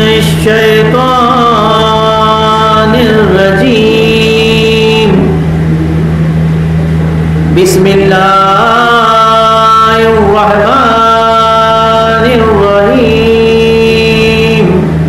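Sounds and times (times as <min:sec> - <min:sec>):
man chanting through a microphone: 0:00.0 - 0:05.5, 0:07.5 - 0:15.0
low electrical hum: 0:00.0 - 0:15.0.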